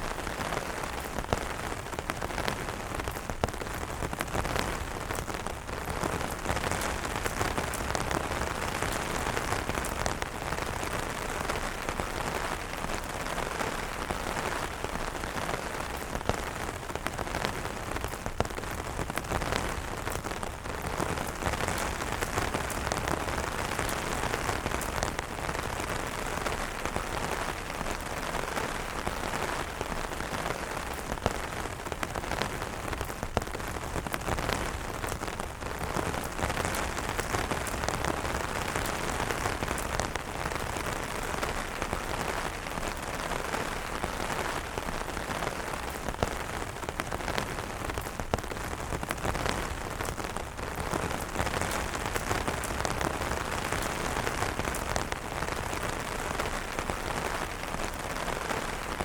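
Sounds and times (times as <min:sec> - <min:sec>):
rain pattering on umbrella: 0:00.0 - 0:59.0.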